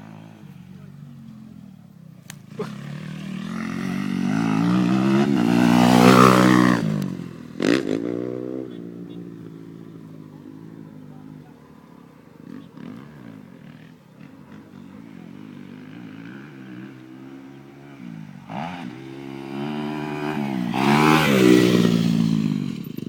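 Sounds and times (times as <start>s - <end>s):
dirt bike engine passing: 0.0s - 23.0s.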